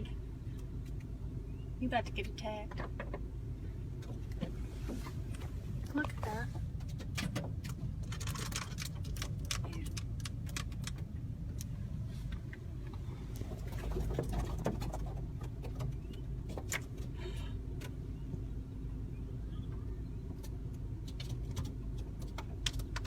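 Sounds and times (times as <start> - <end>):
car engine rumble: 0.0 - 23.0.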